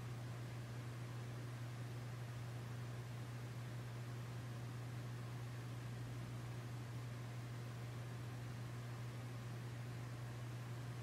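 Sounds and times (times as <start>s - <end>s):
constant hiss: 0.0s - 11.0s.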